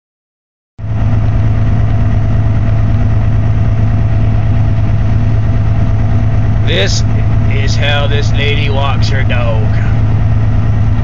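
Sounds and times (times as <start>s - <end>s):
engine idling: 0.8s - 11.0s.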